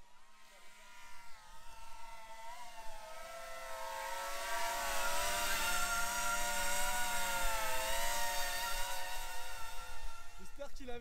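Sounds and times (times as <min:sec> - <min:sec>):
drone motors whining: 0:00.0 - 0:10.6.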